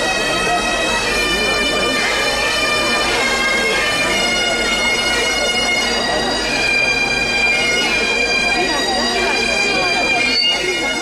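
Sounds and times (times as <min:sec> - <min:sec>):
bagpipe band playing: 0:00.0 - 0:11.0
crowd chatter: 0:00.0 - 0:11.0.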